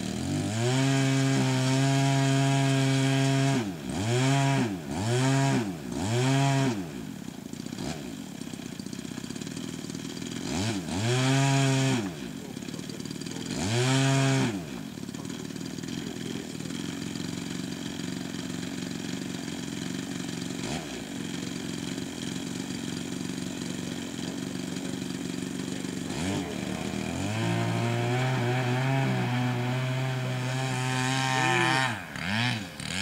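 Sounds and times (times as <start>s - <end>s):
model plane engine buzzing: 0.0s - 33.0s.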